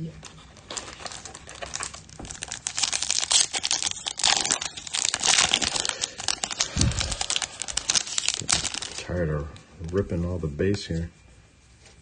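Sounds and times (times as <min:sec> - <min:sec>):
foil wrapper tearing and crinkling: 0:00.2 - 0:10.1.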